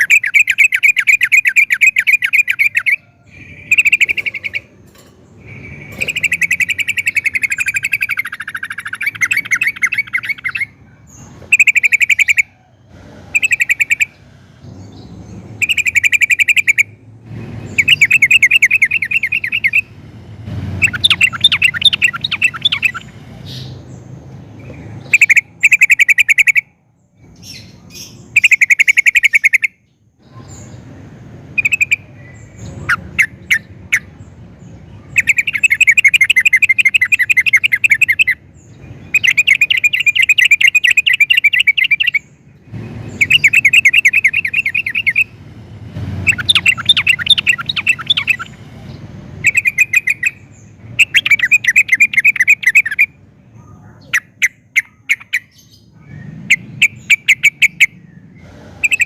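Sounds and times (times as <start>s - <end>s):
sharp bird notes: 0.0s - 12.7s, 13.3s - 17.0s, 17.6s - 20.0s, 20.8s - 30.9s, 31.5s - 59.0s
bulbul chattering trills: 0.0s - 59.0s.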